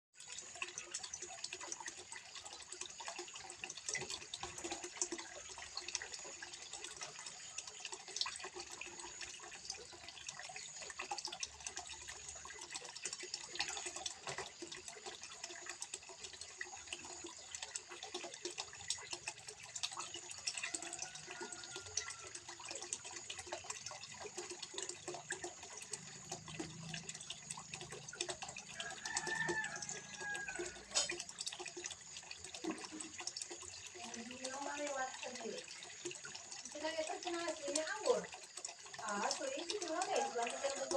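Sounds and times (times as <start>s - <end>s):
water trickling into a pond: 0.1s - 40.9s.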